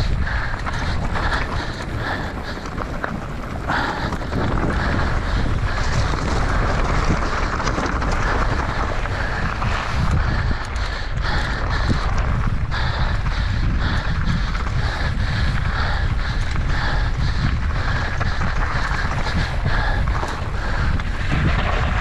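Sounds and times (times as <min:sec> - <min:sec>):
heavy panting breaths: 0:00.0 - 0:22.0
mountain bike rumbling and rattling: 0:00.0 - 0:22.0
wind buffeting microphone: 0:00.0 - 0:22.0.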